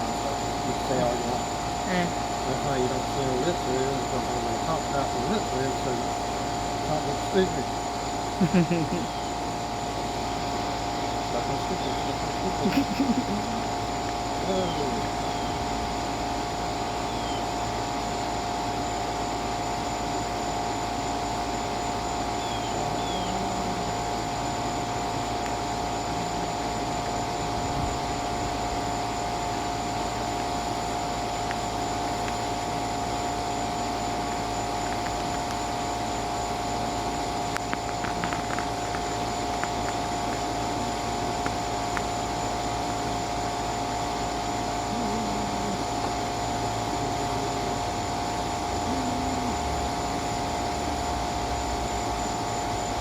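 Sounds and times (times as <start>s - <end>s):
machine drone: 0.0s - 53.0s.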